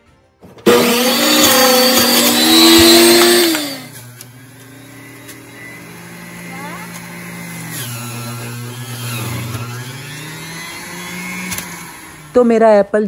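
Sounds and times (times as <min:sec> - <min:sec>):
juicer motor whining and grinding: 0:00.6 - 0:12.5.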